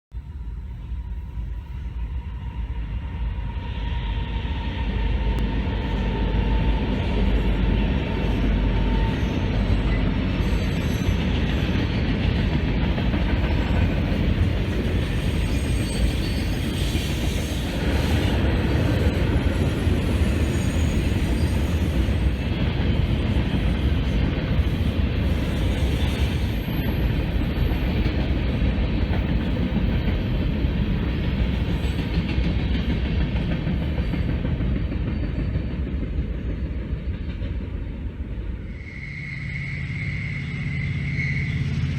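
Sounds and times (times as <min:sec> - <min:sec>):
train rumbling past: 0:00.1 - 0:41.9.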